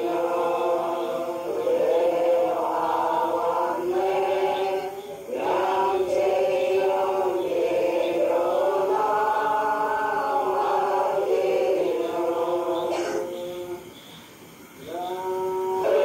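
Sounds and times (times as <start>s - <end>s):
women singing in unison: 0.0s - 14.0s, 14.9s - 16.0s.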